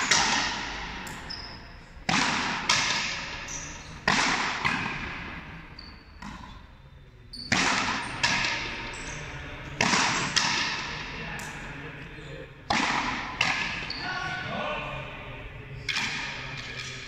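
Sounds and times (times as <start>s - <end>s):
ball hits echoing in hall: 0.0s - 12.0s, 12.6s - 17.0s.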